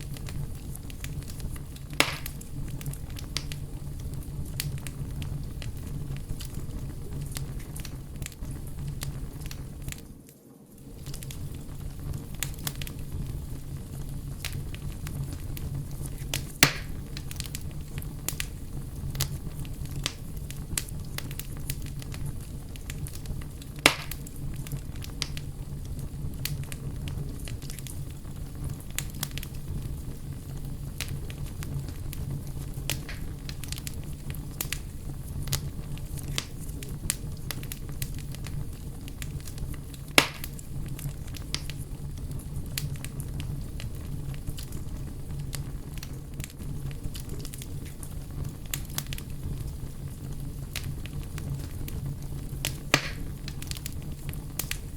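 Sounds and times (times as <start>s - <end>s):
campfire crackling: 0.0s - 54.9s
fire popping: 0.0s - 54.9s.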